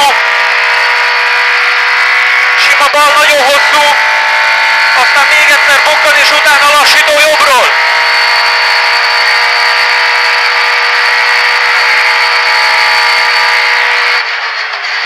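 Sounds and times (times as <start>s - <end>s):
car engine at full throttle: 0.0s - 15.0s
high whine: 0.0s - 15.0s.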